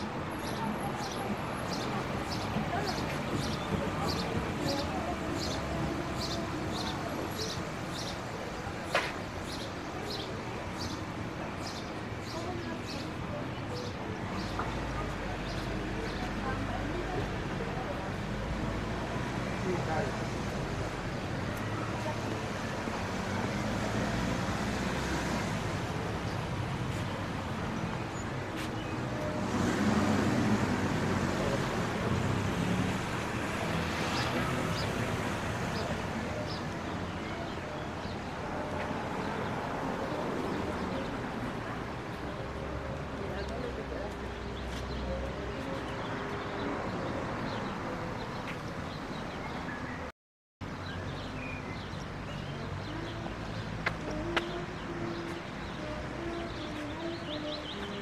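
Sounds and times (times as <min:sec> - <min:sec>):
footsteps on sidewalk: 0:00.0 - 0:49.9, 0:50.8 - 0:58.0
street noise: 0:00.0 - 0:58.0.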